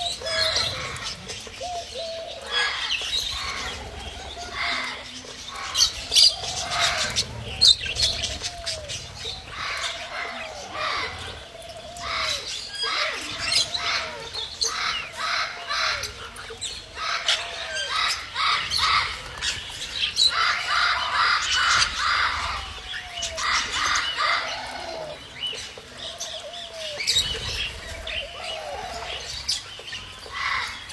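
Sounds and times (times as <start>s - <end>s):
birds chirping and chattering: 0.0s - 30.9s.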